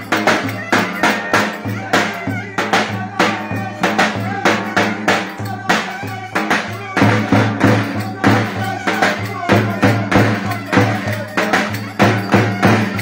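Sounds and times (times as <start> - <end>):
driving drum beat: 0.0 - 13.0.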